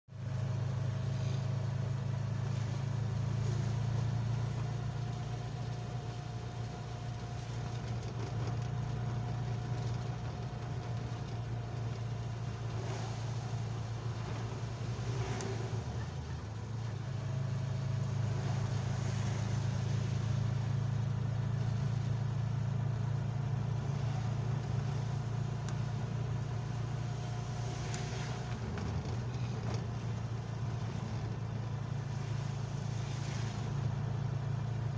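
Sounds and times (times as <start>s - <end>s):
vehicle engine drone: 0.0s - 34.9s
tyres on wet road: 0.1s - 34.9s.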